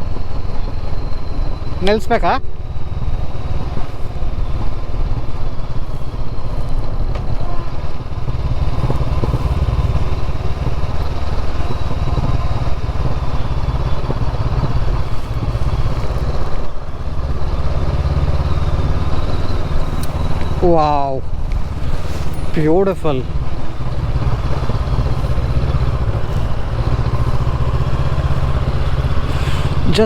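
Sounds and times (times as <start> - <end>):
low rumble of wind noise: 0.0 - 30.0
motorcycle engine running: 0.0 - 30.0.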